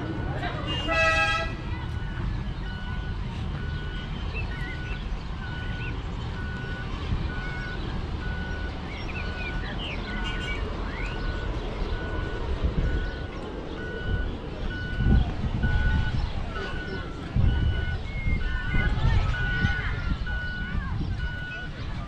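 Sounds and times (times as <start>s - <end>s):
birds chirping: 0.0s - 22.0s
electronic warning beeps: 1.9s - 22.0s.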